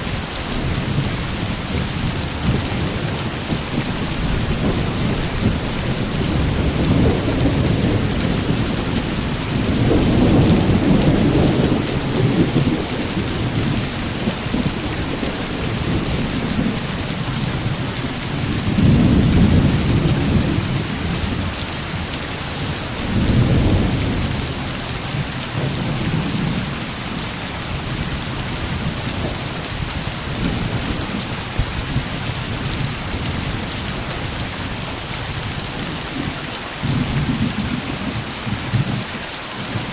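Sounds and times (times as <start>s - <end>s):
thunder rumbling: 0.0s - 39.1s
heavy rain hissing: 0.0s - 39.9s.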